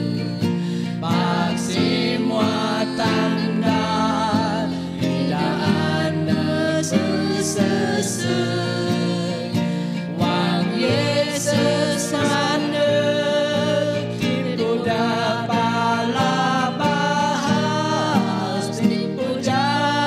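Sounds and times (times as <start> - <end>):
acoustic guitar: 0.0 - 20.0
group singing a hymn: 0.0 - 20.0.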